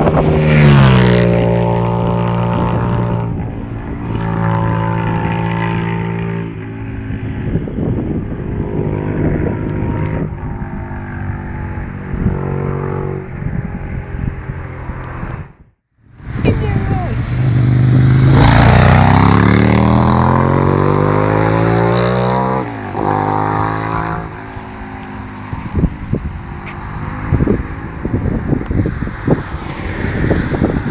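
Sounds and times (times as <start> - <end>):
loud motorcycle engine: 0.0 - 30.9.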